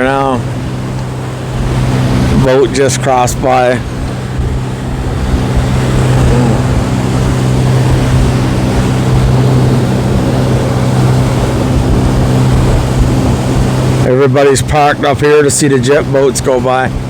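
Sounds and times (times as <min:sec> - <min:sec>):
motorboat engine droning: 0:00.0 - 0:17.0
water noise from hull: 0:00.0 - 0:17.0
wind rumble on microphone: 0:00.0 - 0:17.0.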